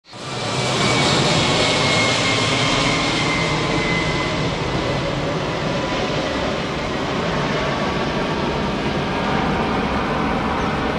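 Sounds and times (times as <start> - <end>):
jet engines rushing: 0.1 - 10.9.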